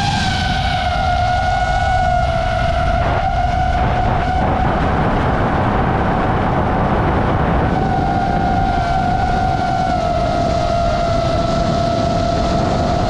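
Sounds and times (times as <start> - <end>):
drone propellers whining: 0.0 - 13.0
heavy wind rush: 0.0 - 13.0.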